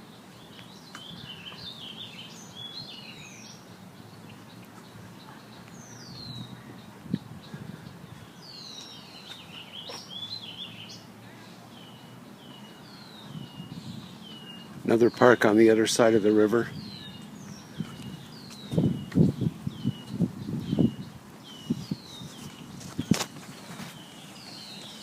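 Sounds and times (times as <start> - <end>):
songbirds singing and chirping: 0.0 - 25.0.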